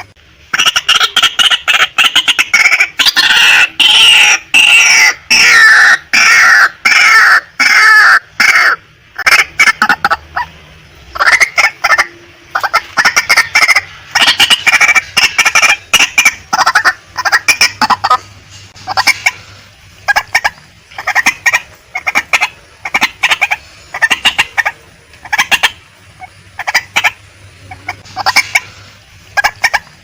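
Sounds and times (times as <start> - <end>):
waterhen calling harsh notes: 0.0 - 30.0.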